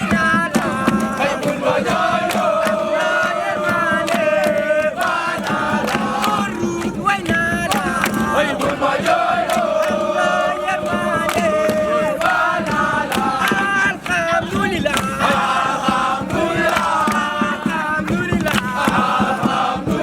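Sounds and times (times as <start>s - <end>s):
group chanting in unison: 0.0s - 20.0s
sharp percussive beats: 0.0s - 20.0s.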